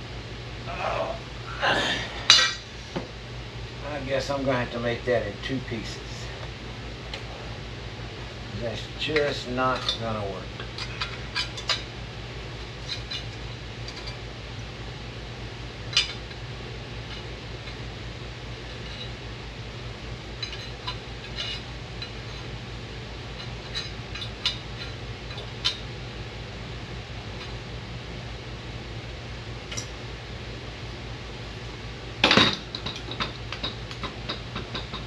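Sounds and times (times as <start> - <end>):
low shop hum: 0.0 - 35.0.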